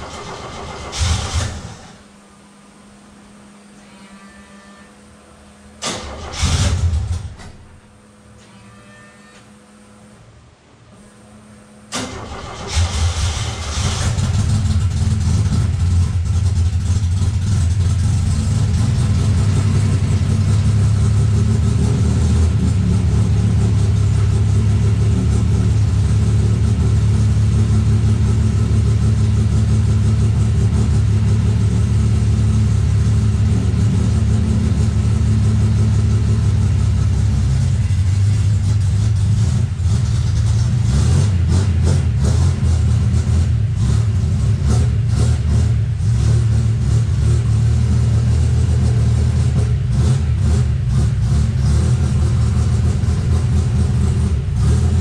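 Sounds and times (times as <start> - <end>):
car engine starting and idling: 0.0 - 3.8, 5.1 - 8.4, 9.5 - 55.0.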